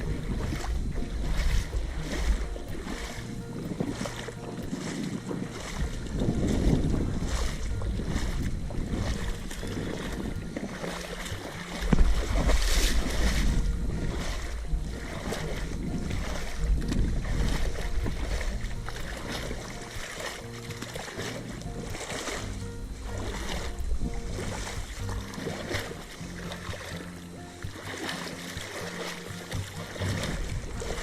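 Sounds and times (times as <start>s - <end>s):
wind buffeting microphone: 0.0s - 27.8s, 28.4s - 31.0s.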